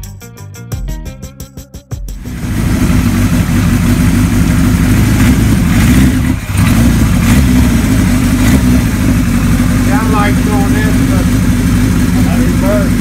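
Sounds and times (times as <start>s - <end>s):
motorcycle engine idling: 2.2s - 13.0s.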